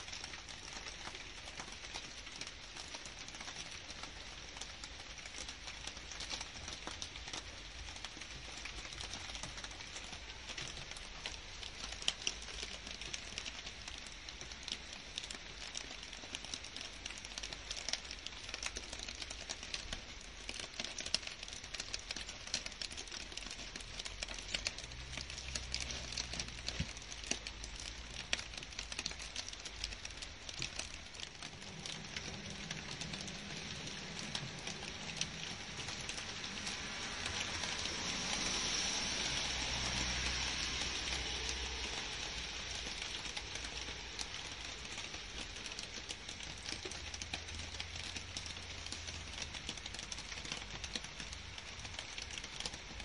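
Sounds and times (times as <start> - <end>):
rain on leaves and grass: 0.0 - 53.0.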